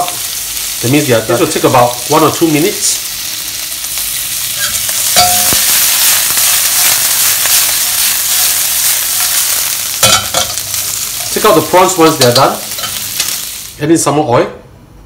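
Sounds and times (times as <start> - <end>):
prawns sizzling in hot oil: 0.0 - 13.8.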